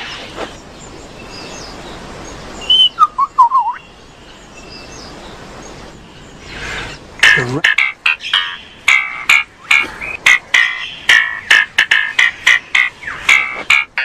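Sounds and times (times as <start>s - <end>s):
forest background: 0.0s - 14.0s
lyrebird singing: 0.0s - 14.0s.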